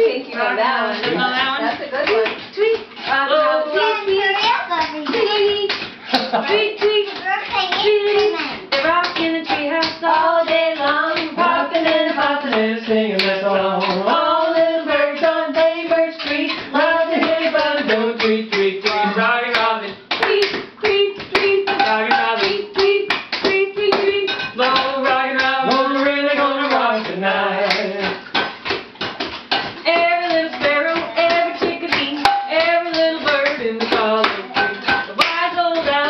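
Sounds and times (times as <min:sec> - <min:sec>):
rhythmic hand clapping: 0:00.0 - 0:36.0.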